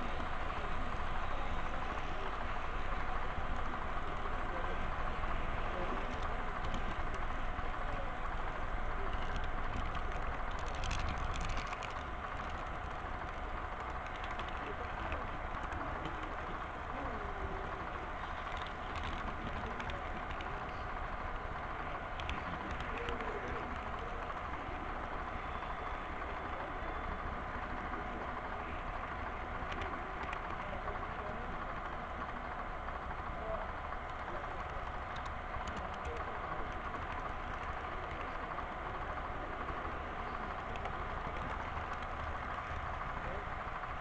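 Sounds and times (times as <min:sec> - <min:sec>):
model train wheels rumbling: 0:00.0 - 0:44.0
wheels clicking over a turnout: 0:00.0 - 0:44.0.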